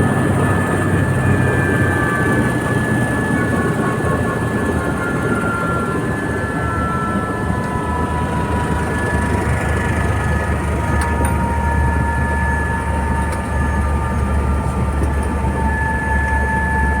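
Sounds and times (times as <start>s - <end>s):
helicopter rotor and engine rumble: 0.0s - 17.0s
high turbine whine: 0.0s - 17.0s.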